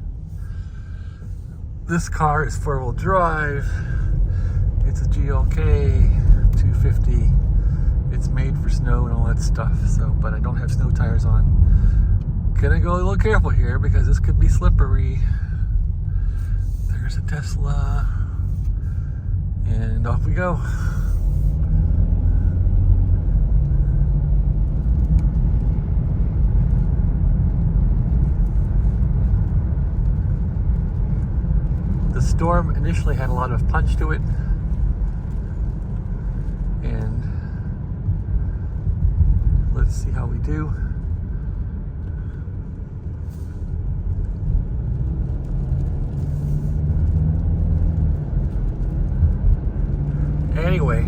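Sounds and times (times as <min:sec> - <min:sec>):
road and engine rumble in car: 0:00.0 - 0:51.0.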